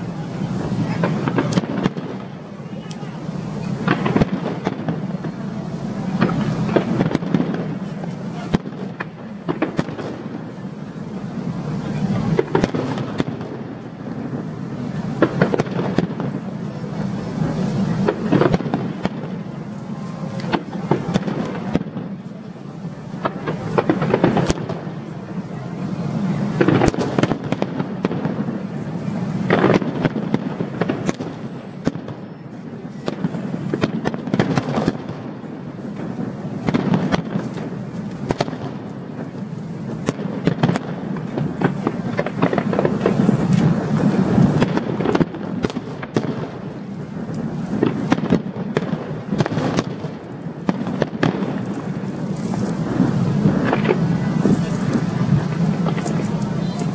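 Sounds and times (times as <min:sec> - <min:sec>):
firework shell bursts and crackling: 0:00.0 - 0:56.9
sharp firework bangs: 0:00.0 - 0:56.9.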